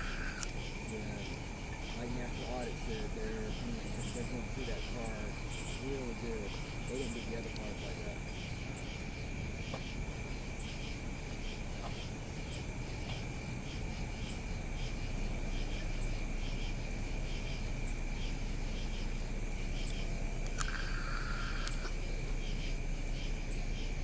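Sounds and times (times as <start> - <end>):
insects chirping in chorus: 0.0 - 24.0
steady low rumble: 0.0 - 24.0.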